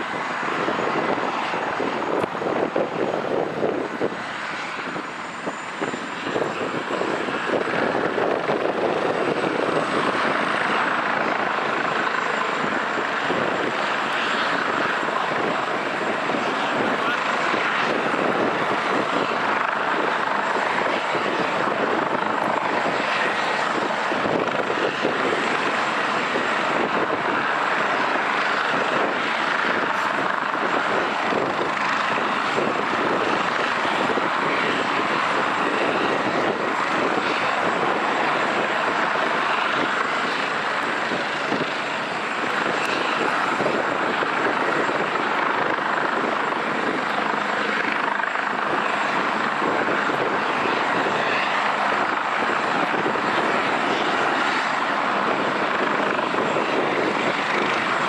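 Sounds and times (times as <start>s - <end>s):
helicopter turbine and rotor: 0.0s - 58.0s.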